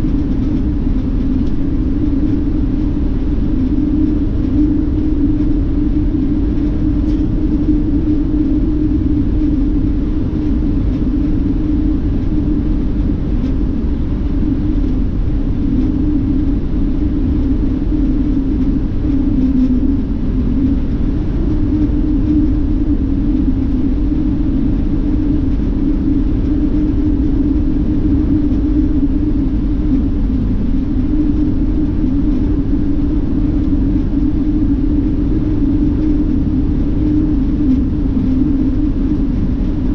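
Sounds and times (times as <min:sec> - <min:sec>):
strong low hum: 0:00.0 - 0:39.9.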